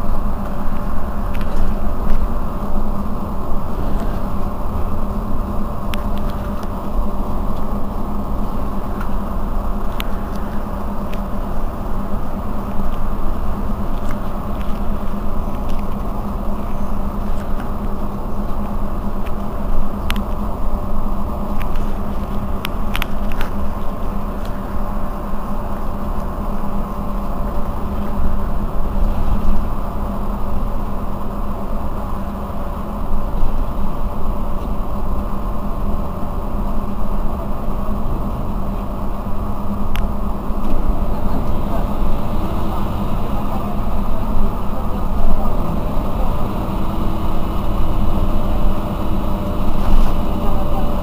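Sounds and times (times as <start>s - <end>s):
bus engine and road noise: 0.0s - 51.0s.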